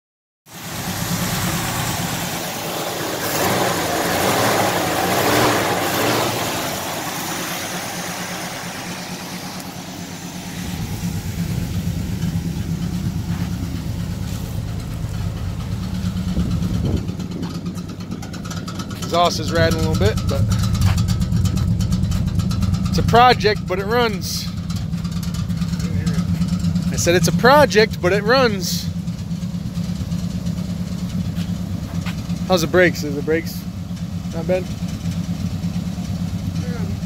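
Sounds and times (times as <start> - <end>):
car engine idling: 0.5 - 37.0.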